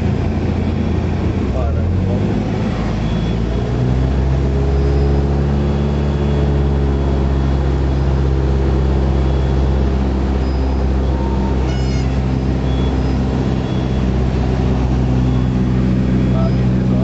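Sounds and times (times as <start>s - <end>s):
plane engine and propeller droning: 0.0s - 17.0s.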